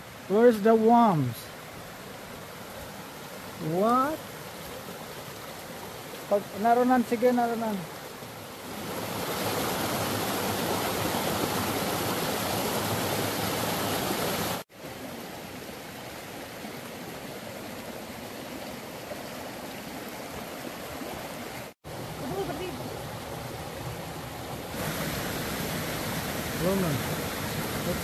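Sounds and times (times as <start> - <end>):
waterfall and creek rushing: 0.0 - 28.0.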